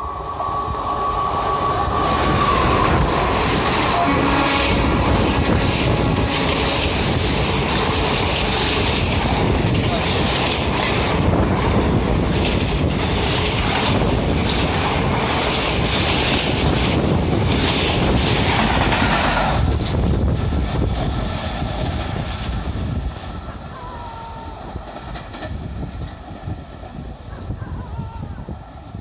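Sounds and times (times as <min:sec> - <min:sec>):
train wheels clattering over rails: 0:01.0 - 0:23.4, 0:24.6 - 0:27.2.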